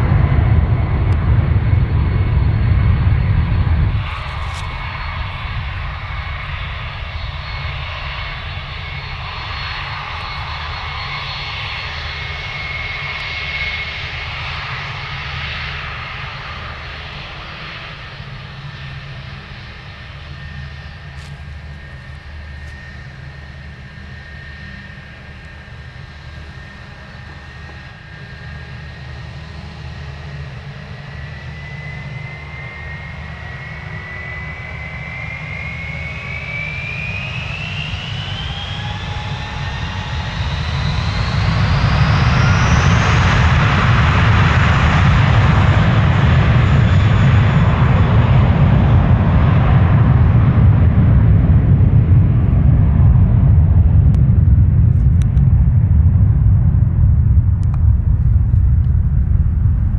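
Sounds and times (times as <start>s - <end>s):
jet engines spooling up: 0.0s - 59.9s
jet roar: 0.0s - 59.9s.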